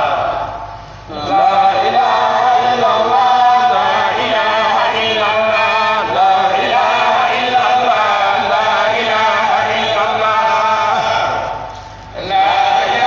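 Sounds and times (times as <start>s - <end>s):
man chanting prayer: 0.0s - 13.0s.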